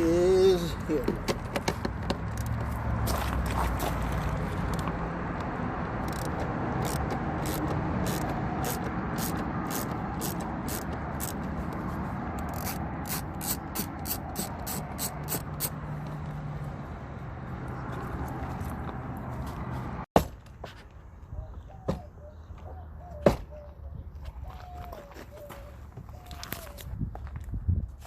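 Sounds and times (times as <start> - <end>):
vehicle noise: 0.0 - 28.0.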